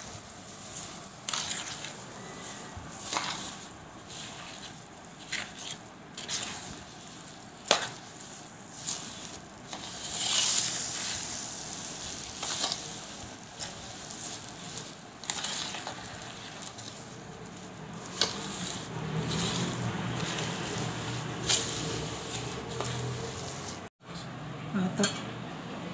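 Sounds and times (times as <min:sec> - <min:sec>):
spoon scraping spices in bowl: 0:00.5 - 0:23.9.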